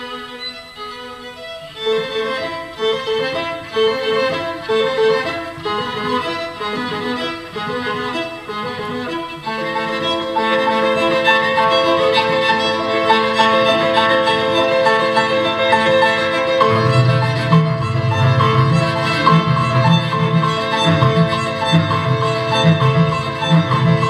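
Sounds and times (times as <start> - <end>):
piano trio classical piece: 0.0 - 24.0.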